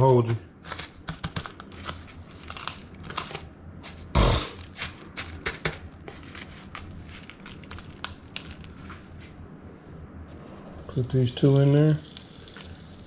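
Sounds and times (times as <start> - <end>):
chip crumbs crackling: 0.0 - 9.0, 10.8 - 13.0.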